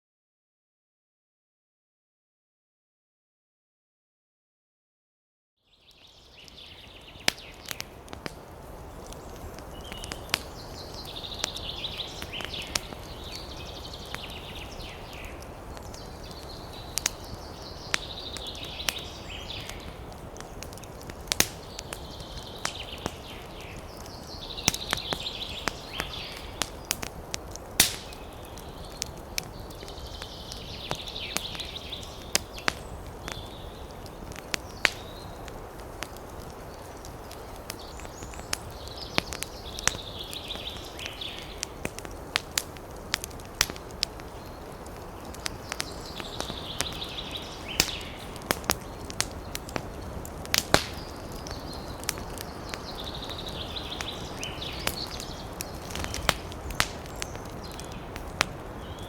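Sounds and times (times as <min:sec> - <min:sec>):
wood fire crackling: 0:05.8 - 0:59.0.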